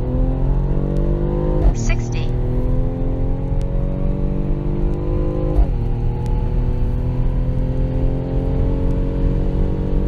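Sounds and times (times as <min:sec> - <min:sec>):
car engine at full throttle: 0:00.0 - 0:10.0.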